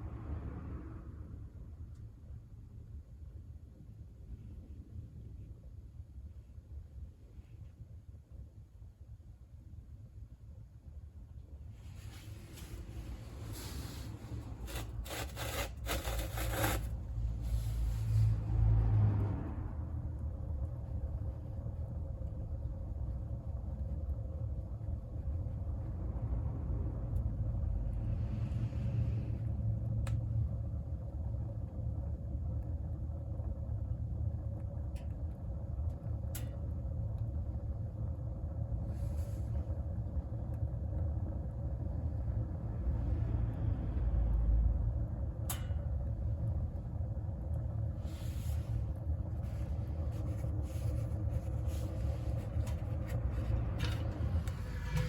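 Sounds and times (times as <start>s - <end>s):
wood fire rumbling in a stove: 0.0s - 55.0s.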